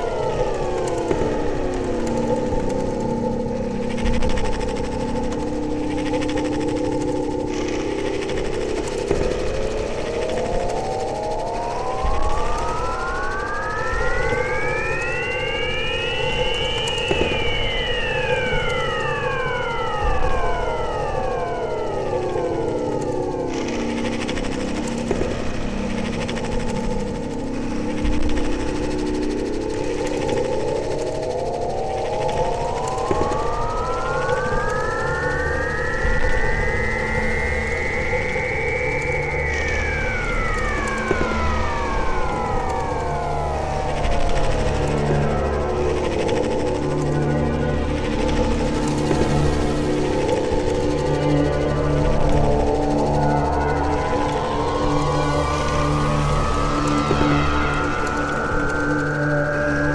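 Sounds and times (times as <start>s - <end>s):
crackling noise texture: 0.0s - 59.9s
sustained low synthesizer drone: 0.0s - 59.9s.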